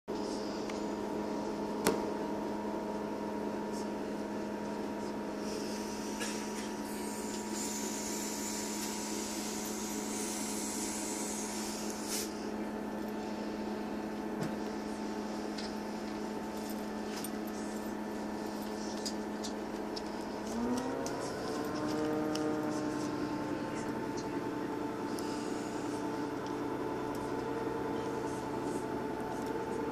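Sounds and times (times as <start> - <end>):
train diesel engine idling: 0.2 - 29.9.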